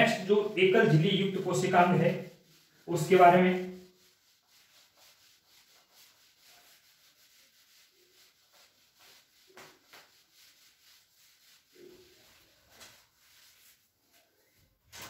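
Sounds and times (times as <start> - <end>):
whiteboard wiping strokes: 0.0 - 15.0.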